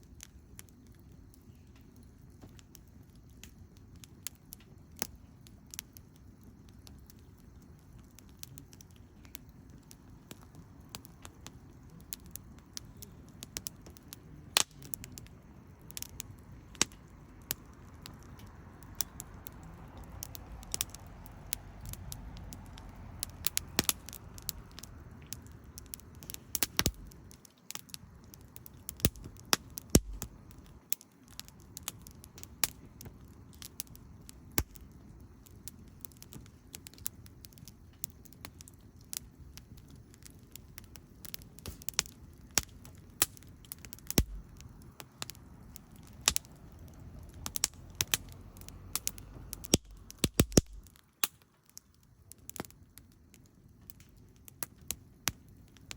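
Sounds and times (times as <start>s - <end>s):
low background rumble: 0.0s - 51.0s
wood fire crackling and popping: 0.0s - 55.9s.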